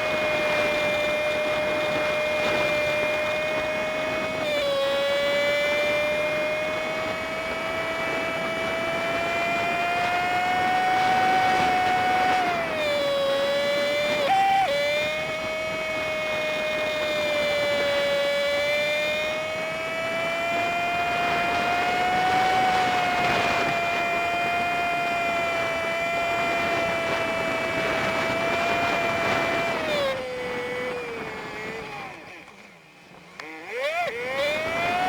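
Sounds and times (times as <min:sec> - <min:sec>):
sped-up engine whine: 0:00.0 - 0:35.0.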